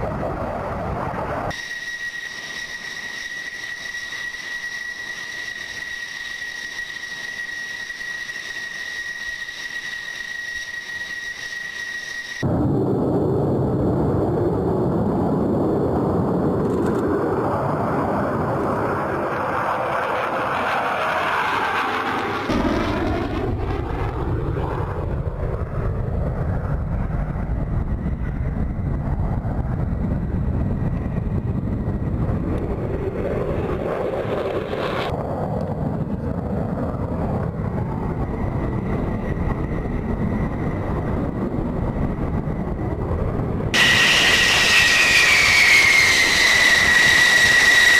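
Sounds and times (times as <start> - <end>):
aircraft passing with phasing sound: 0.0 - 47.9
jet engine roar: 0.0 - 47.9.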